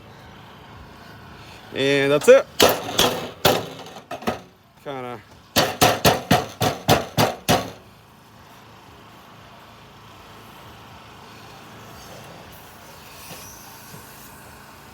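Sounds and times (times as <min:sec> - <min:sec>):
faint vehicle engine rumble: 0:00.0 - 0:05.6, 0:07.7 - 0:14.9.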